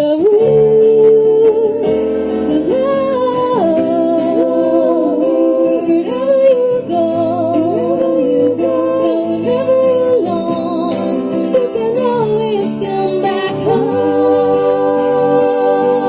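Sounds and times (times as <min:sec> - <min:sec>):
female vocal group humming harmonies: 0:00.0 - 0:16.0
plucked guitar: 0:00.0 - 0:16.0.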